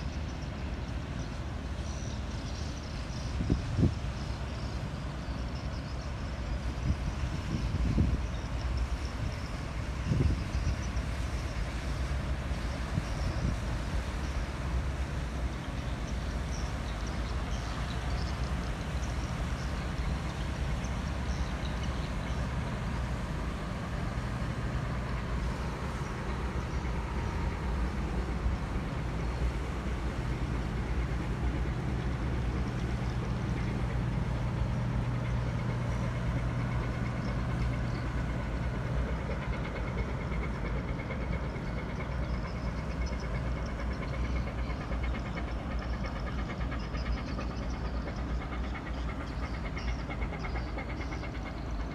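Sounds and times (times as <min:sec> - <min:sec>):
tugboat diesel engine droning: 0:00.0 - 0:51.9.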